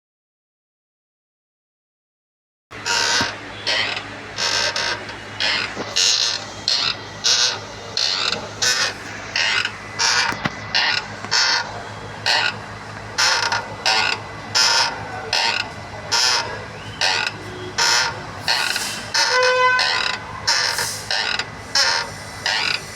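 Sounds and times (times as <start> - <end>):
steady low hum: 2.7 - 22.9
clutch pedal creaking: 2.9 - 22.8.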